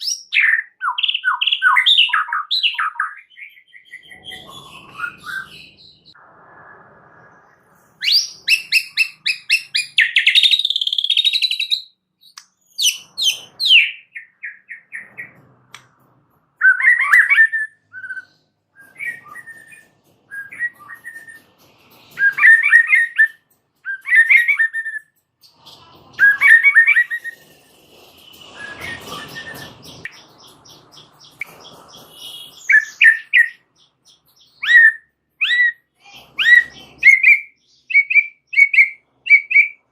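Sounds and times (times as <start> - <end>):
songbird singing trills and whistles: 0.0 - 6.2, 8.0 - 15.3, 16.6 - 21.5, 22.1 - 27.4, 28.3 - 39.8.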